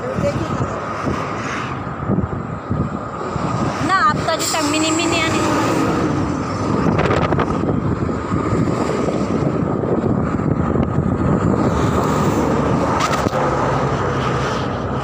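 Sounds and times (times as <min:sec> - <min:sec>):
heavy highway traffic: 0:00.0 - 0:15.0
wind on microphone: 0:00.0 - 0:15.0.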